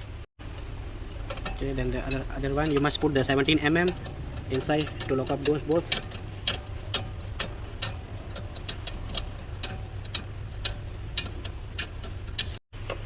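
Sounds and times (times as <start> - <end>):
low steady hum: 0.0 - 13.0
hand tool ticks and clicks: 1.3 - 12.6.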